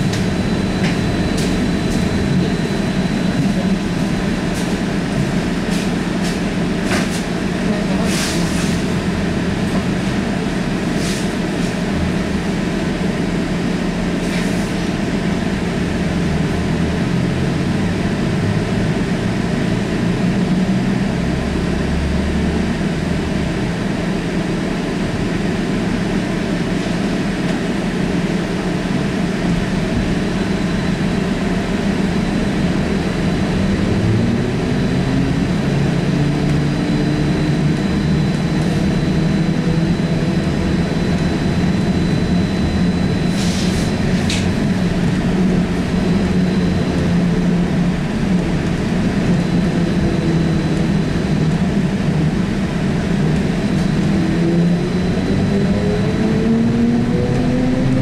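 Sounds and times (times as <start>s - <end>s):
trolleybus running rumble: 0.0s - 58.0s.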